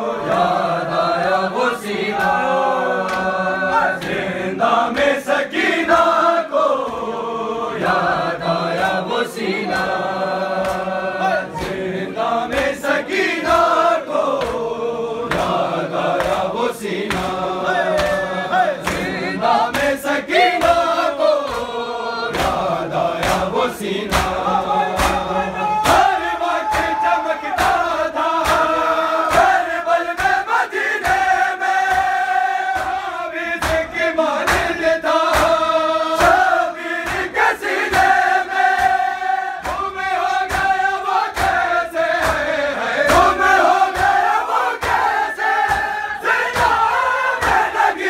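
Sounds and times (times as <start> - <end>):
men chanting in unison: 0.0 - 48.0
hand slaps on chests: 2.1 - 7.2, 7.8 - 48.0.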